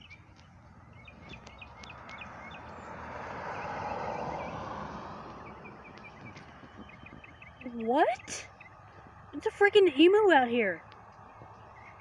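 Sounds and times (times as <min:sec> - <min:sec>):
small bird chirping: 0:00.0 - 0:04.6, 0:05.2 - 0:09.6, 0:10.8 - 0:12.0
vehicle passing: 0:00.0 - 0:12.0.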